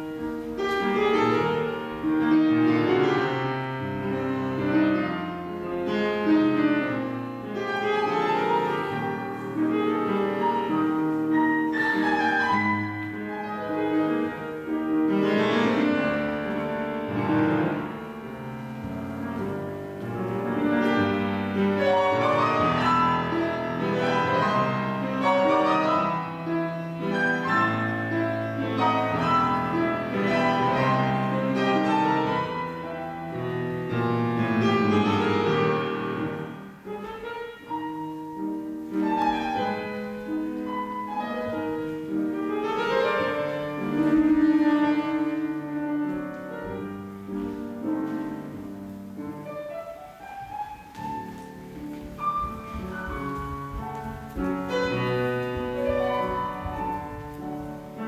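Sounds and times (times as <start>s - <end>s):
classical piano music: 0.0s - 58.0s.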